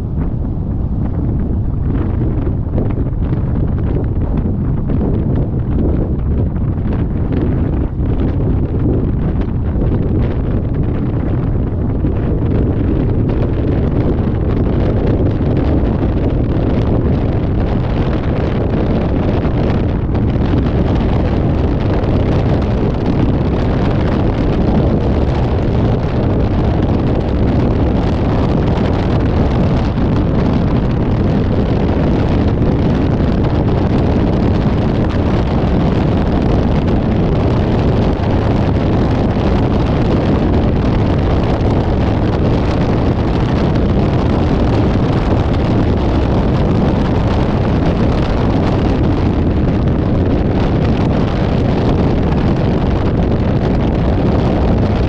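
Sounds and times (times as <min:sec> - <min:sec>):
vehicle wind and road noise: 0:00.0 - 0:55.0
wind buffeting microphone: 0:00.0 - 0:55.0.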